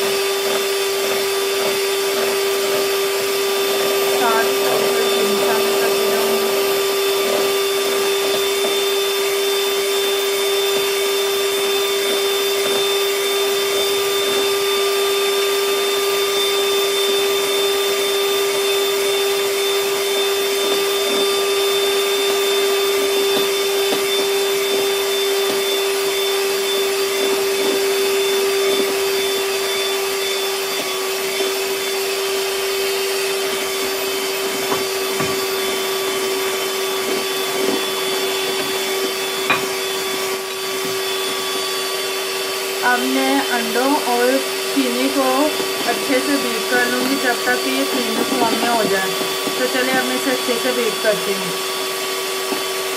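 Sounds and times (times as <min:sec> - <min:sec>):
electric hand mixer whisking: 0:00.0 - 0:52.9.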